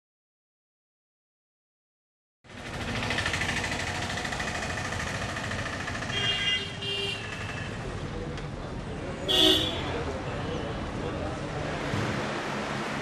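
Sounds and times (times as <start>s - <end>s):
traffic noise: 2.5s - 13.0s.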